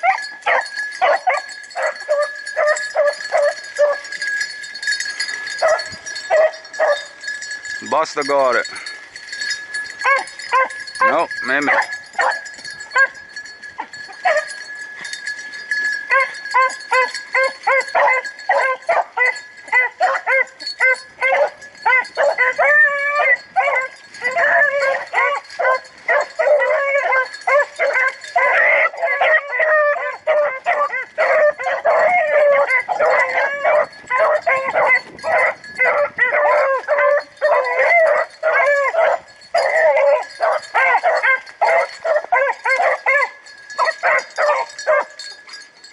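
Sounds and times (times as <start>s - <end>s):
hounds baying: 0.0s - 45.9s.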